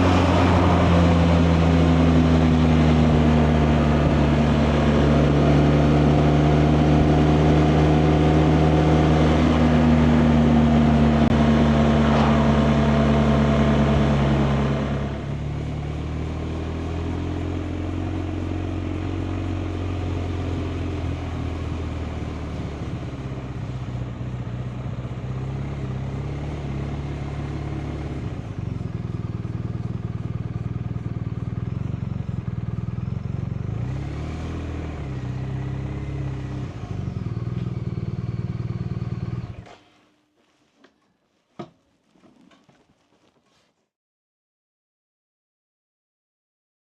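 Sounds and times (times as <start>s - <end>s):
motorcycle engine running: 0.0s - 39.7s
wind and road noise: 0.0s - 39.7s.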